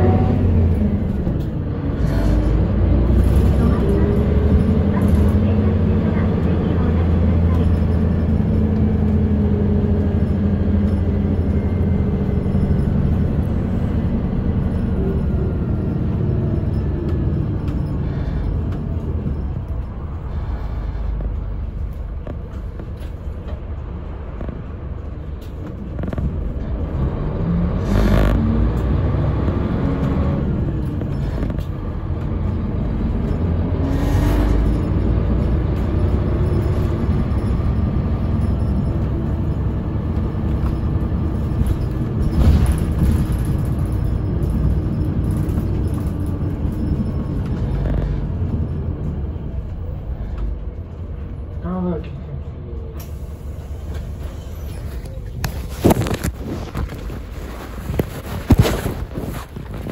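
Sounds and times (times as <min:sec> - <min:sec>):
bus engine and drive noise: 0:00.0 - 0:59.9.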